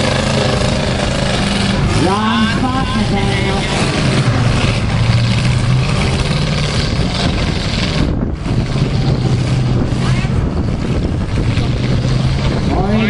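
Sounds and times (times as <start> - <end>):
car engines running loudly: 0.0 - 13.0.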